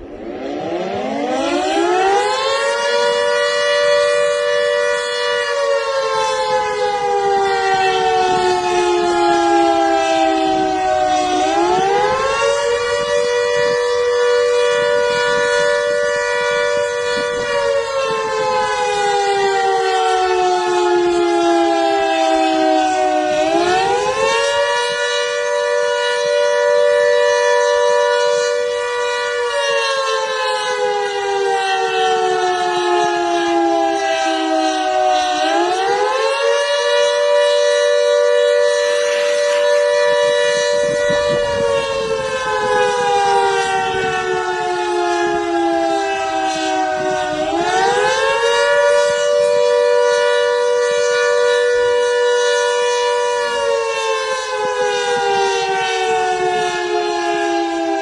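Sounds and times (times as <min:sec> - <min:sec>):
fire siren wailing: 0:00.0 - 0:58.0.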